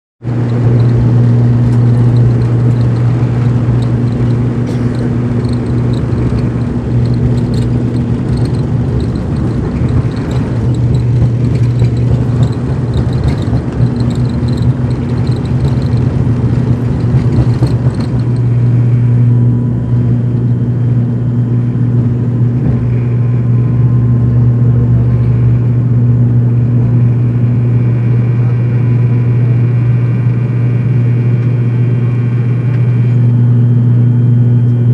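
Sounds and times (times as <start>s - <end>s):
propeller drone: 0.2s - 34.9s
runway rumble and rattling: 0.2s - 34.9s.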